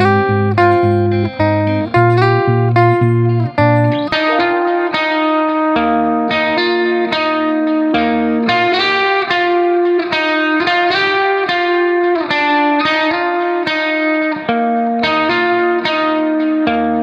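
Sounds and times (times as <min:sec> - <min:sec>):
plucked string instrument music: 0:00.0 - 0:17.0.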